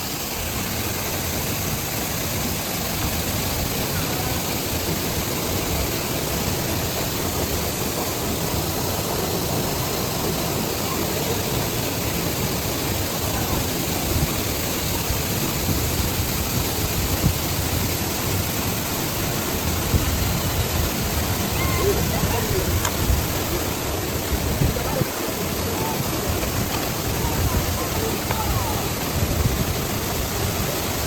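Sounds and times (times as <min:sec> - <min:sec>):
waterfall roar: 0:00.0 - 0:31.0.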